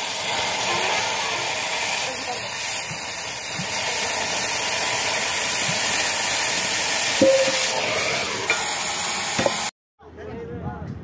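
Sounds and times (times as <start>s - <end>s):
cutting torch hissing: 0.0s - 9.7s.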